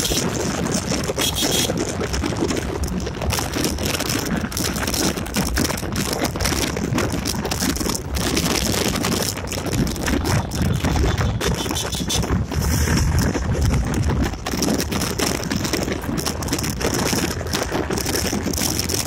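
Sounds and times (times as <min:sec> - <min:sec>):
motorcycle running: 0:00.0 - 0:19.0
wind buffeting microphone: 0:00.0 - 0:19.0.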